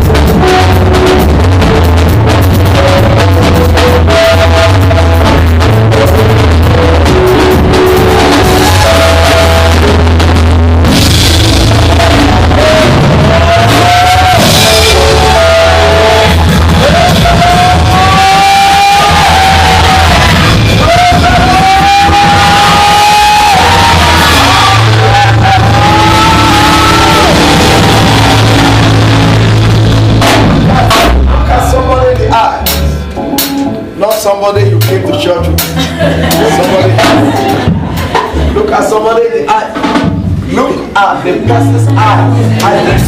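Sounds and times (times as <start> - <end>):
drum and cymbal hits: 0.0 - 38.7, 39.6 - 43.0
heavy steady bass: 0.0 - 39.1, 39.8 - 43.0
live church band music: 0.0 - 43.0.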